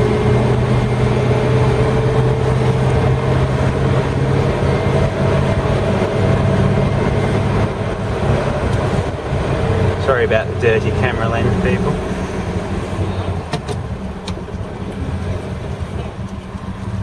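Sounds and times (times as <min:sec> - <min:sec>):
car engine droning with faint whine: 0:00.0 - 0:17.0.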